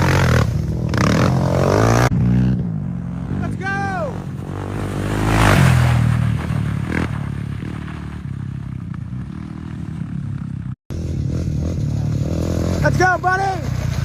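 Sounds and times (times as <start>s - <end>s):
off-road vehicle passing close: 0.0s - 14.0s.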